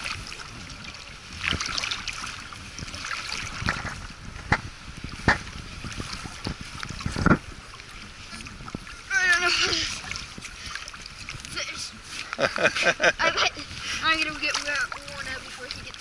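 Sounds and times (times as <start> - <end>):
water lapping at kayak: 0.0 - 16.0
wind on microphone: 0.0 - 16.0.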